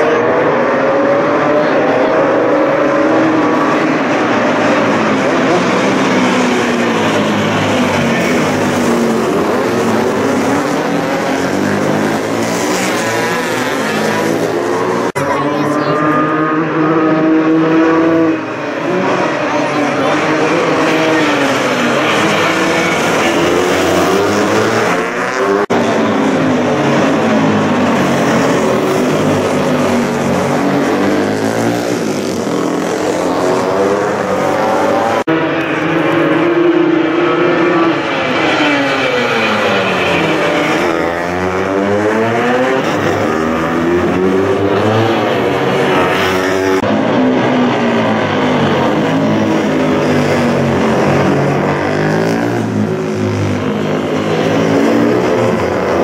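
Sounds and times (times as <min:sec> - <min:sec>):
racing motorcycles passing: 0:00.0 - 0:56.0.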